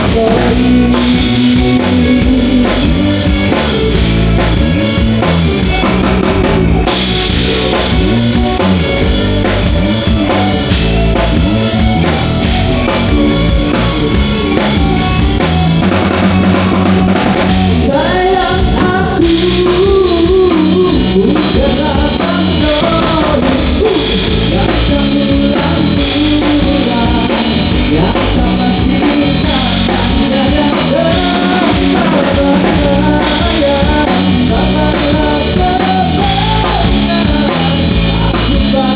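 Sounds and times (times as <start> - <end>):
person singing: 0.0 - 5.8, 6.8 - 38.9
drum kit: 0.0 - 38.9
guitar: 0.0 - 38.9.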